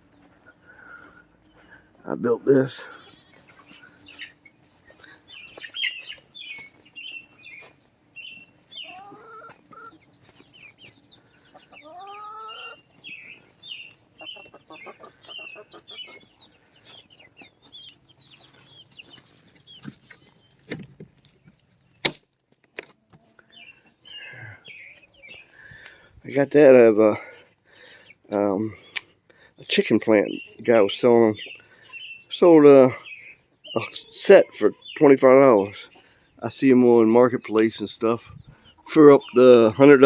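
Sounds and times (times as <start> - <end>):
chickens clucking: 0.0 - 21.8, 22.8 - 40.0.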